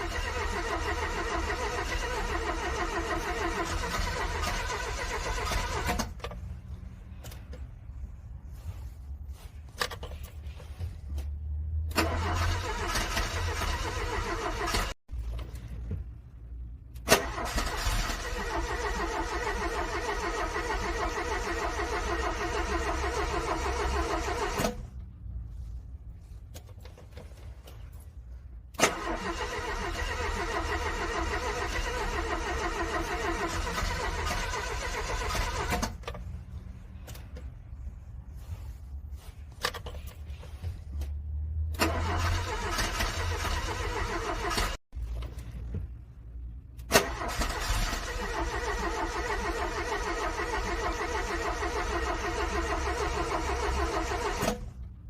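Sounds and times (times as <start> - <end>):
car engine cranking: 0.0 - 55.0.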